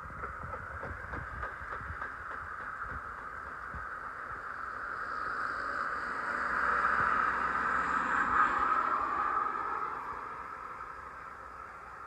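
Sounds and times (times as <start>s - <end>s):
passenger train rolling past: 0.0s - 12.0s.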